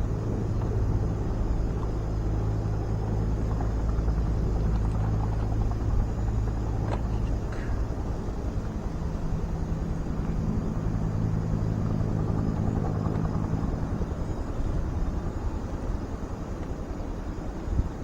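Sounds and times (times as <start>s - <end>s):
low engine hum: 0.0s - 18.0s
rumble: 0.0s - 18.0s.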